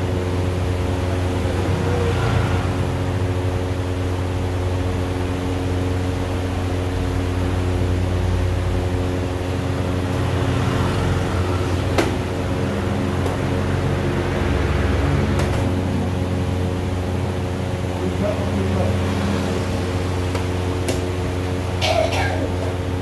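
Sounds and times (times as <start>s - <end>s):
machine hum with low tones: 0.0s - 23.0s.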